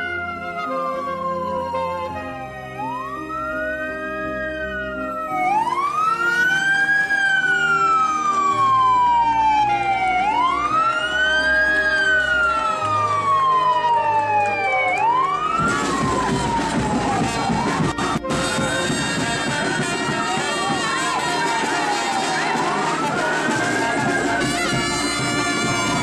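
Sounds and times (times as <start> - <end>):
fire truck siren wailing: 0.0 - 26.0.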